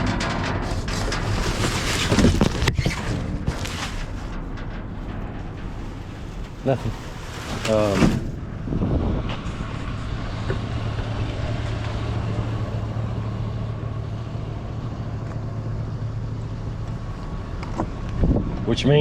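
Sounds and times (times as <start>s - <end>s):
vehicle engine and road hum: 0.0s - 19.0s.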